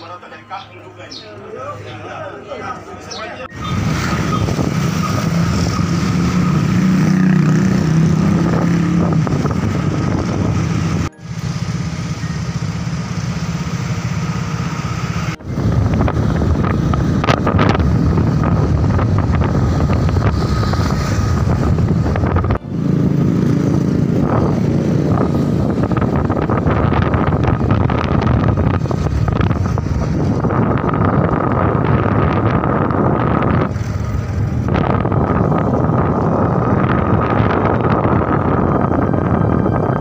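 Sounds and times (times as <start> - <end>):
wind rushing on microphone: 3.5 - 11.2, 15.3 - 40.0
small motorcycle engine running: 5.3 - 38.2.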